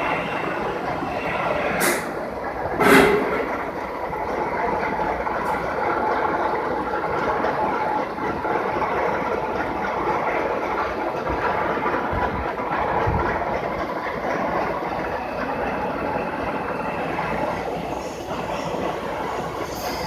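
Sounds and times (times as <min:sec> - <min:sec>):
heavy lathe running: 0:00.0 - 0:20.0.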